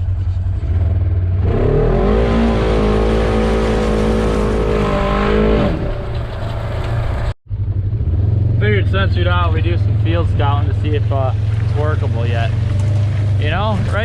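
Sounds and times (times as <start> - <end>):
vehicle engine running hard: 0.0 - 14.0.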